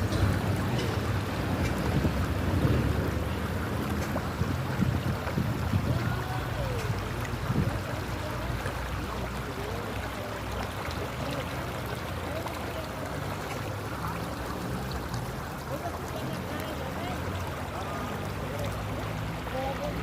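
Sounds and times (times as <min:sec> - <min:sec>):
river water running over rocks: 0:00.0 - 0:20.0.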